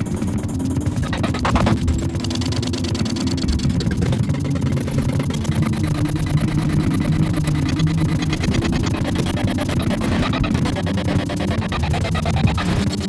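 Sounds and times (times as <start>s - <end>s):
low rumbling drone: 0.0s - 12.5s.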